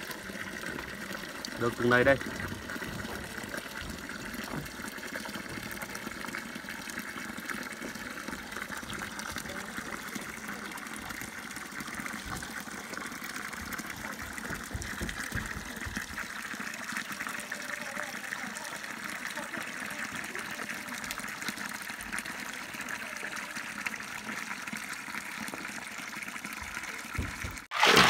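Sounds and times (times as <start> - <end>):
water splashing into stone trough: 0.0 - 28.0.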